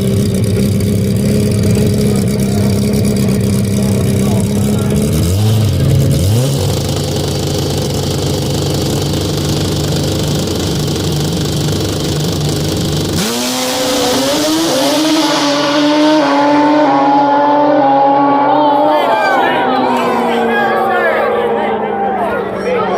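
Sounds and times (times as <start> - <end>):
drag racing engine revving: 0.0 - 22.9.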